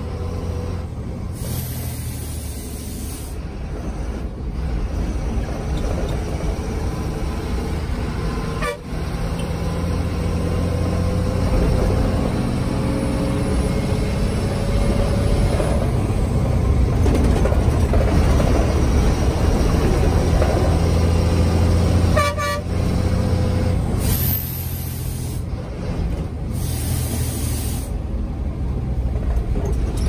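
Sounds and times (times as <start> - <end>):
bus diesel engine running: 0.0 - 30.0.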